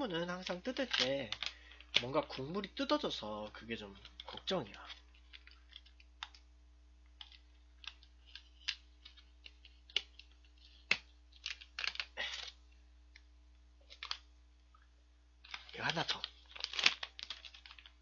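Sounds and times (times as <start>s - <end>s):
plastic packaging crackling: 0.0s - 6.4s, 7.0s - 12.6s, 13.8s - 14.3s, 15.4s - 18.0s.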